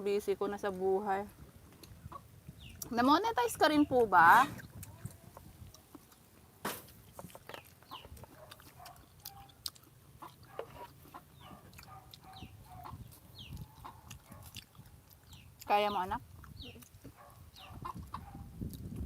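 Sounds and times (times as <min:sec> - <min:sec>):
chickens clucking faintly: 0:00.8 - 0:18.8.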